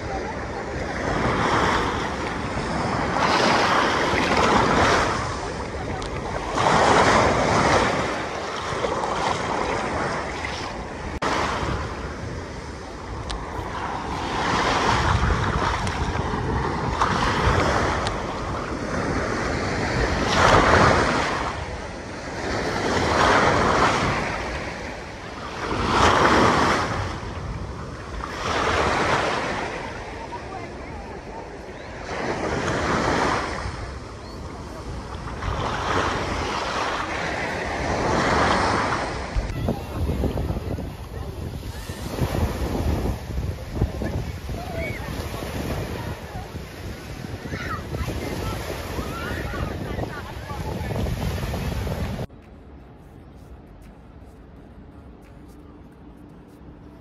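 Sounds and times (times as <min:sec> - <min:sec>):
small waves breaking: 0:00.0 - 0:52.3
wind on microphone: 0:00.0 - 0:57.0.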